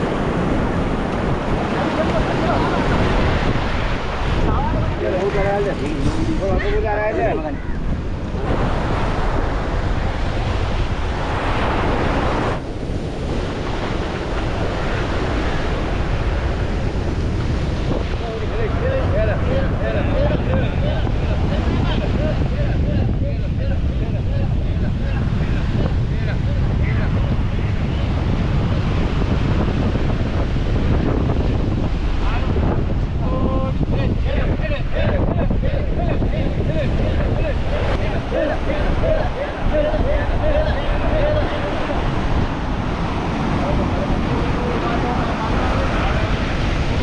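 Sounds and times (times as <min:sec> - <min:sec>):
sea surf washing: 0:00.0 - 0:47.0
wind buffeting microphone: 0:00.0 - 0:47.0.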